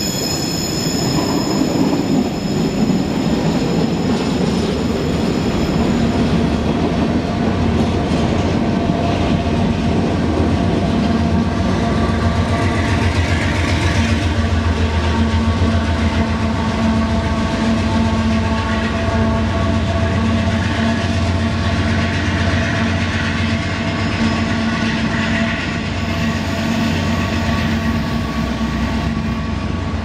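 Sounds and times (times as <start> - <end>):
diesel locomotive engine drone: 0.0 - 30.0
passing train hiss: 0.0 - 30.0
wheels rumbling on rails: 0.0 - 30.0.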